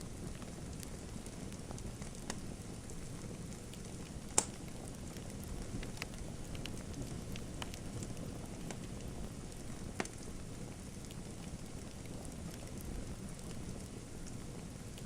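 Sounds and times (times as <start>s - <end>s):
fire pops and snaps: 0.2s - 15.0s.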